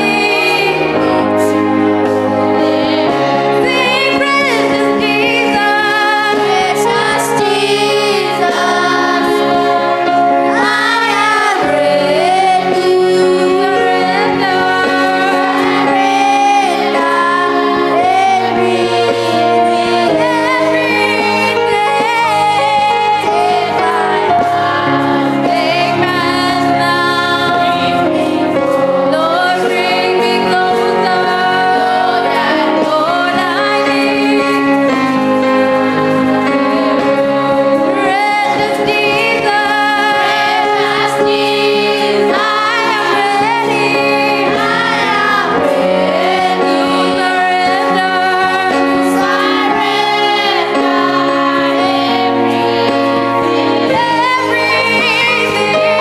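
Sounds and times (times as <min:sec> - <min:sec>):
voices singing with accompaniment: 0:00.0 - 0:56.0.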